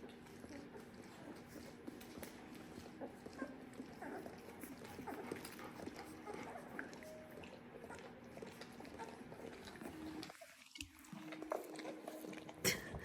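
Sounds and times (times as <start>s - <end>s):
puppies squeaking and whimpering: 0.0s - 13.0s.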